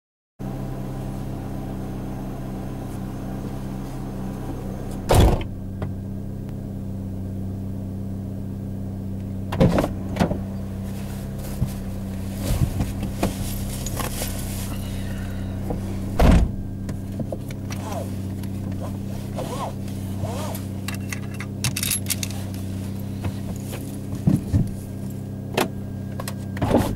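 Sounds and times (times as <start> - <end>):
car engine idling: 0.4 - 26.9.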